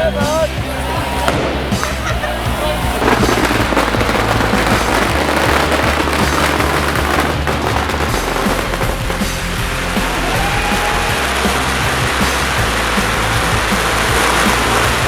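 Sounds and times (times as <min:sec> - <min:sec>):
rock music with bass line: 0:00.0 - 0:15.0
fireworks and firecrackers crackling: 0:00.2 - 0:15.0.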